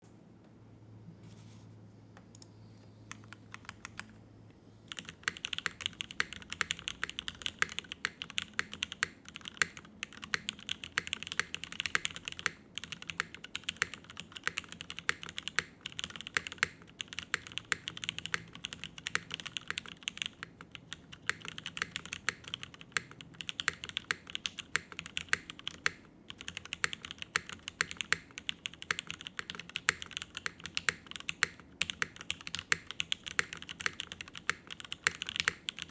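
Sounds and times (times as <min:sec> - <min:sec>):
mechanical keyboard typing: 0:03.1 - 0:04.2, 0:04.9 - 0:35.9.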